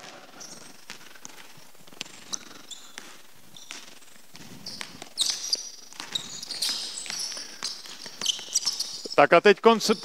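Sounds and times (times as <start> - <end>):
sneakers squeaking on floor: 0.0 - 1.0, 2.0 - 10.0
basketball dribbling on hardwood: 0.0 - 9.1.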